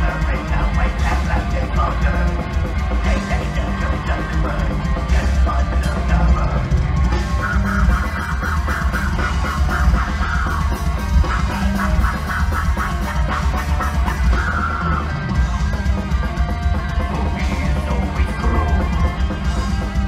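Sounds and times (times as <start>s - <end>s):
heavy metal band playing live: 0.0s - 20.0s.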